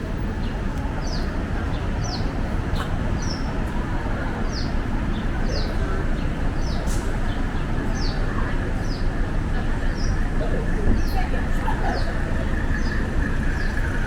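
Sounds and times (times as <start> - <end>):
city background rumble: 0.0 - 14.0.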